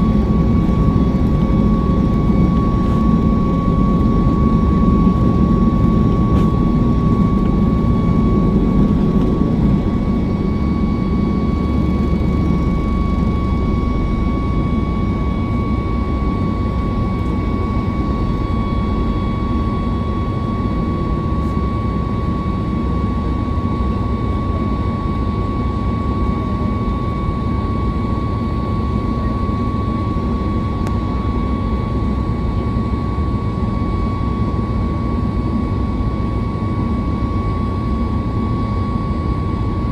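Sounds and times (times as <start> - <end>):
high engine whine: 0.0 - 39.9
jet engines roaring in cabin: 0.0 - 39.9.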